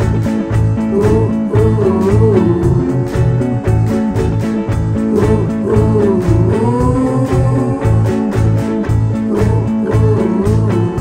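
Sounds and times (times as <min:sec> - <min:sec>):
band music: 0:00.0 - 0:11.0
bending guitar lead line: 0:00.0 - 0:11.0.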